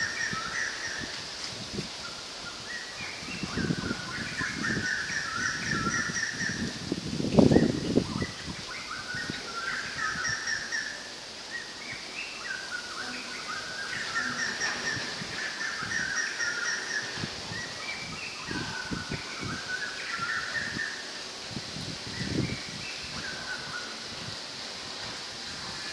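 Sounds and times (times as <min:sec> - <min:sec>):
birds chirping: 0:00.0 - 0:01.2, 0:02.0 - 0:24.3
leaves rustling in wind: 0:00.0 - 0:25.9.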